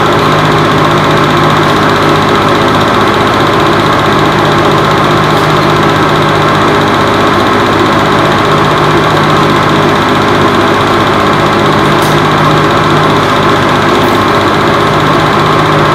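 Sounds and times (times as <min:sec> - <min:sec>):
film projector hum and rattle: 0:00.0 - 0:15.9.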